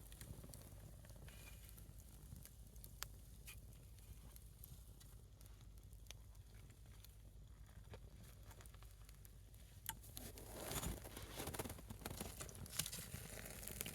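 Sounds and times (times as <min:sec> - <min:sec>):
log burning with soft hiss: 0:00.0 - 0:13.9.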